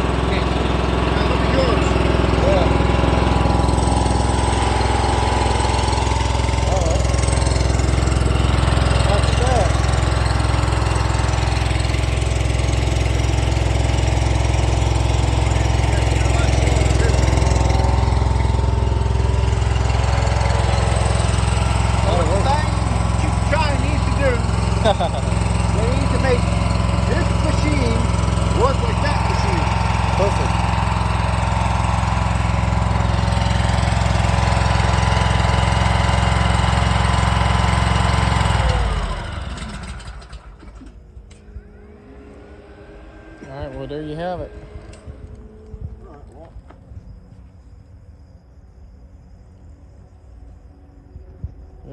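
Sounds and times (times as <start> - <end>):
engine chugging steadily: 0.0 - 47.6
steady whine: 0.0 - 51.9.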